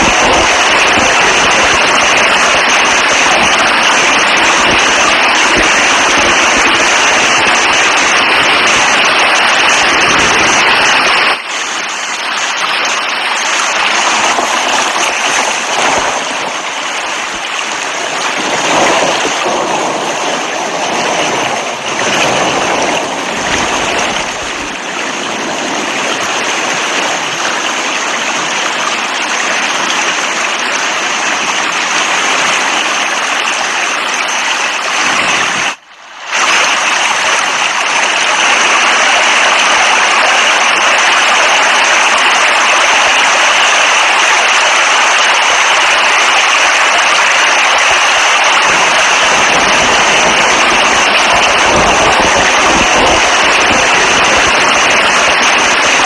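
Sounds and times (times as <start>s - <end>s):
heavy rain hissing: 0.0s - 56.0s
running water rushing: 0.0s - 56.0s.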